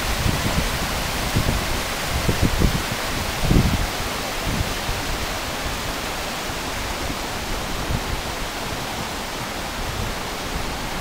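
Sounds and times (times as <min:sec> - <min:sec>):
river rushing over rapids: 0:00.0 - 0:11.0.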